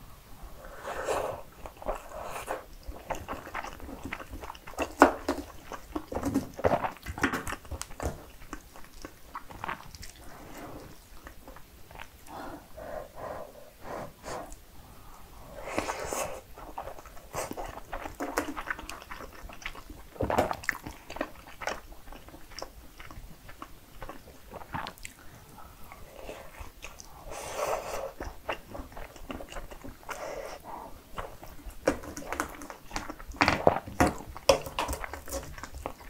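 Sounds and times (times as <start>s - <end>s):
person chewing: 1.0s - 12.4s, 15.6s - 36.0s.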